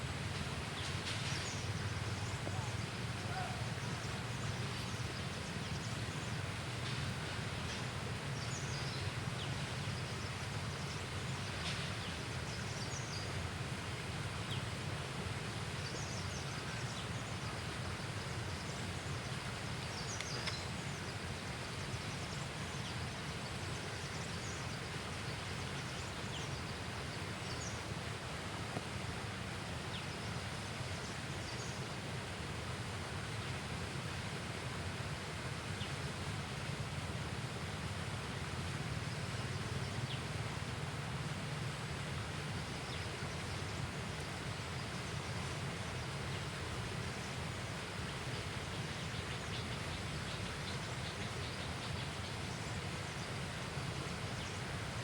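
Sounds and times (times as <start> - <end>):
outdoor background noise: 0.0 - 55.0.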